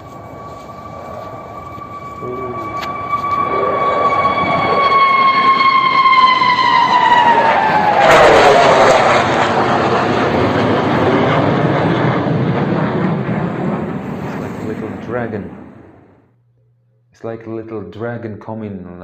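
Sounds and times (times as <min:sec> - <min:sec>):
fighter jet flying past: 0:00.0 - 0:16.2.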